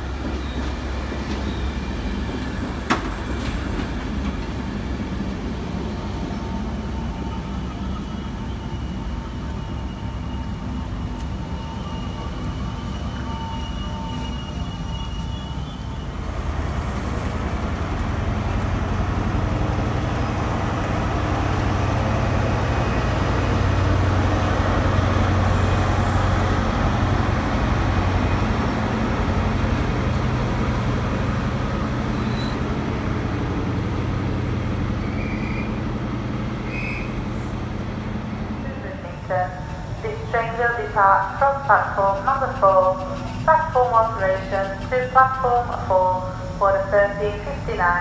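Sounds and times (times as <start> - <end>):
diesel train passing: 0.0 - 48.0
high whine from train: 0.0 - 48.0.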